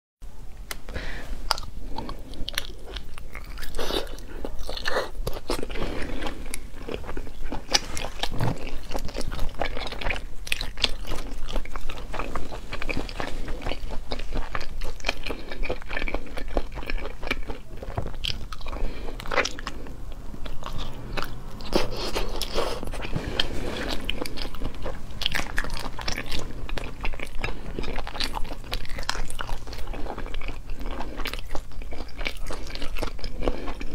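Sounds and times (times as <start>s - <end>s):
chewing and crunching sea snails: 1.4s - 33.9s.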